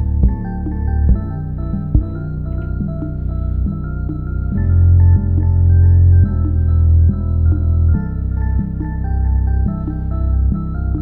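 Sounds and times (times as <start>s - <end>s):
ambient electronic music: 0.0s - 11.0s
deep bass note: 0.0s - 11.0s.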